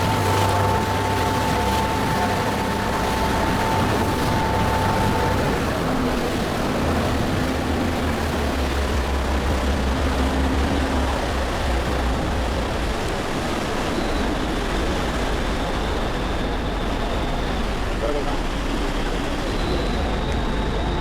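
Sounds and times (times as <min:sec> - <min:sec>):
ferry engine drone: 0:00.0 - 0:21.0
rushing water: 0:00.0 - 0:21.0
wind noise: 0:00.0 - 0:21.0.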